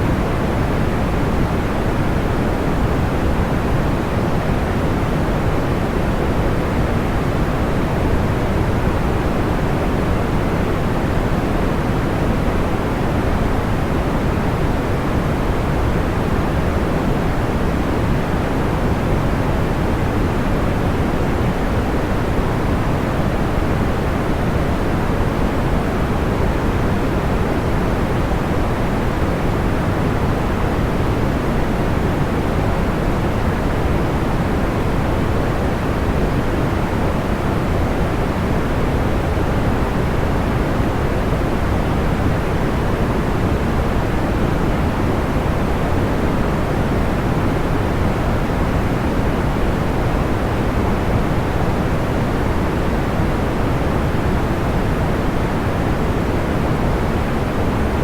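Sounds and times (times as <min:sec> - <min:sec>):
soft white noise: 0:00.0 - 0:58.0.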